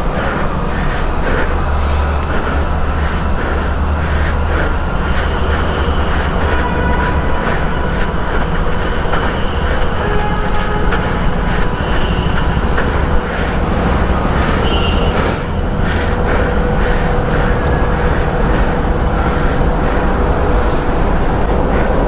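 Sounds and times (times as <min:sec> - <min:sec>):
motorcycle idling: 0:00.0 - 0:22.0.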